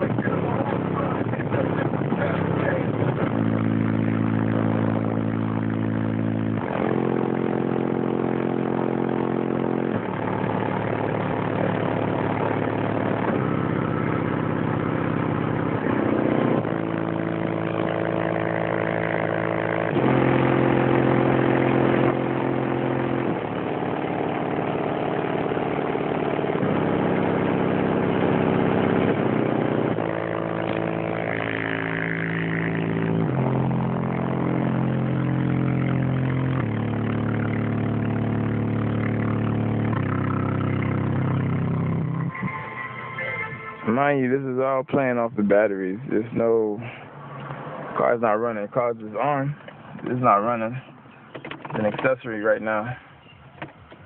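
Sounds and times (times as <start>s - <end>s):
music with sustained chords: 0.0s - 44.6s.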